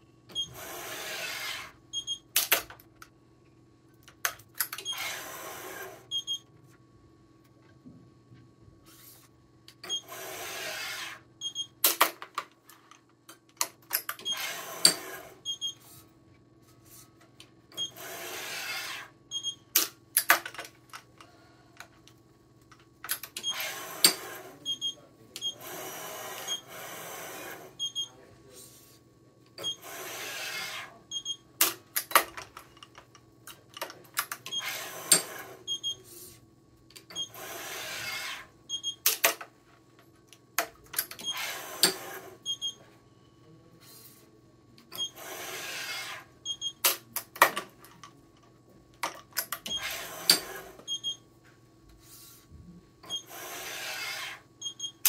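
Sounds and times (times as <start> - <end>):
faint machine hum: 0.0 - 55.0.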